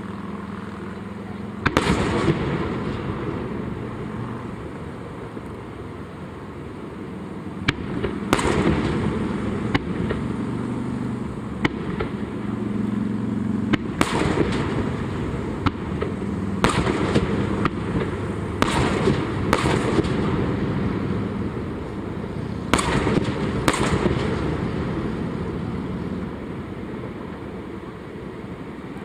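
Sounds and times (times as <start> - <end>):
fireworks bangs: 0.0 - 29.0
fireworks crackle: 0.0 - 29.0.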